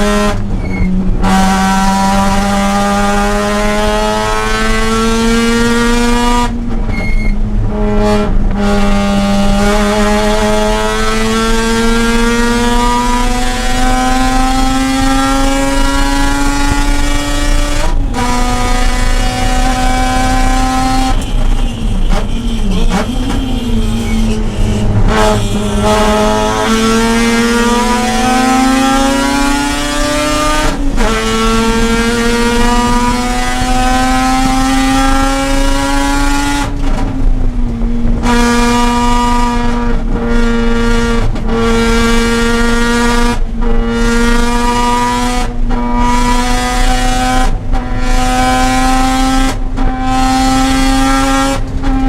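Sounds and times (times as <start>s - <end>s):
rotary engine revving: 7.8s - 52.0s.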